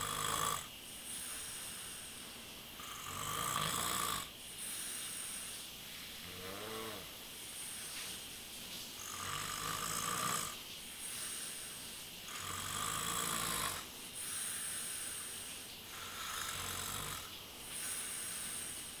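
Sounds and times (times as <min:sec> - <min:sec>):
man snoring: 0:00.0 - 0:05.6, 0:06.2 - 0:07.1, 0:09.0 - 0:19.0
breathy hissing: 0:00.0 - 0:19.0.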